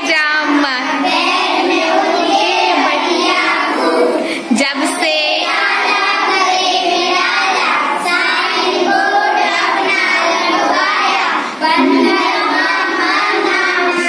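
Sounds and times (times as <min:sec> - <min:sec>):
children reciting in chorus: 0:00.7 - 0:14.0.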